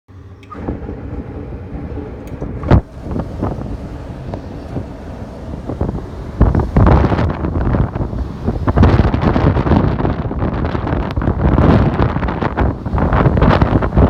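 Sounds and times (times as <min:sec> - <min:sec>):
wind buffeting microphone: 0:00.5 - 0:14.0.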